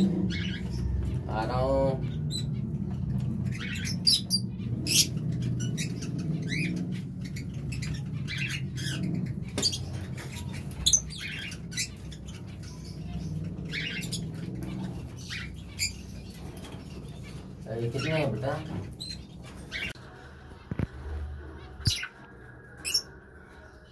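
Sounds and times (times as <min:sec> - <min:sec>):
birds chirping and squeaking: 0:00.0 - 0:23.9
steady low hum: 0:00.0 - 0:23.9.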